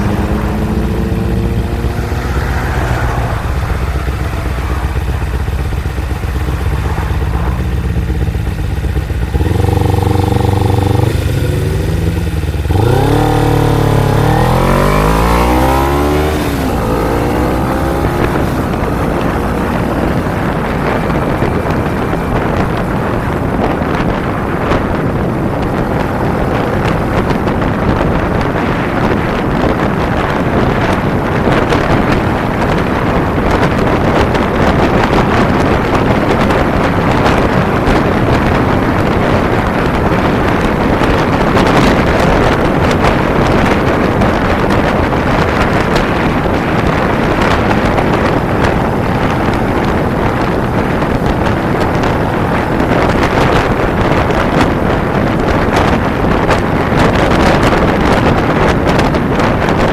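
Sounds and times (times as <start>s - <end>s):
motorcycle engine: 0.0s - 59.9s
road noise: 0.0s - 59.9s
wind rushing over microphone: 0.0s - 59.9s.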